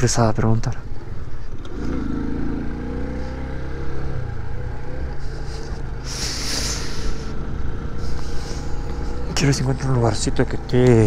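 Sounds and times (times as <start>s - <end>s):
motorcycle engine running: 0.9s - 11.0s.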